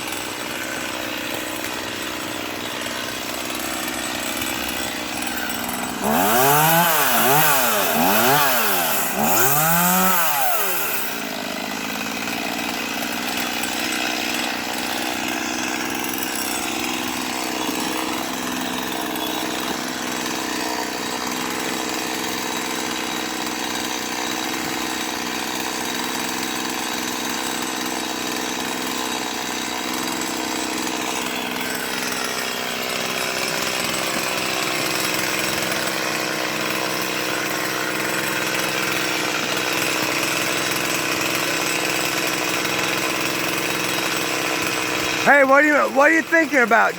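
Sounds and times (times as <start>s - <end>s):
chainsaw engine hum: 0.0s - 46.9s
chainsaw revving: 0.0s - 46.9s.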